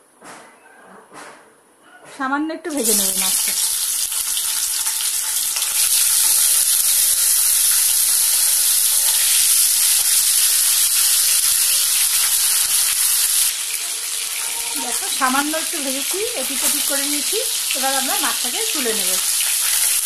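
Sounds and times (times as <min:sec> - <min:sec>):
fish sizzling in hot oil: 0:02.7 - 0:20.0.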